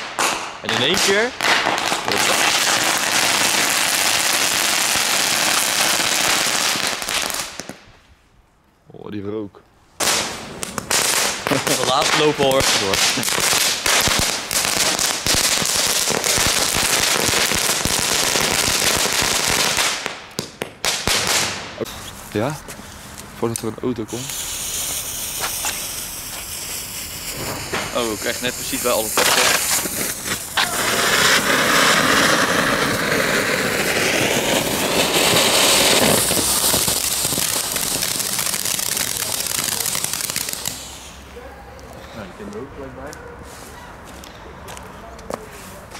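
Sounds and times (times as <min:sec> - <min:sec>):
firecrackers crackling: 0:00.0 - 0:08.0, 0:10.0 - 0:42.7.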